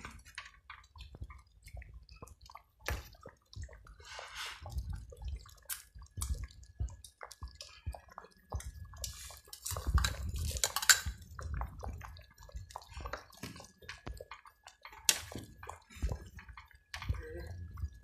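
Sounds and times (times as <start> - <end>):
thick porridge bubbling: 0.0 - 18.0.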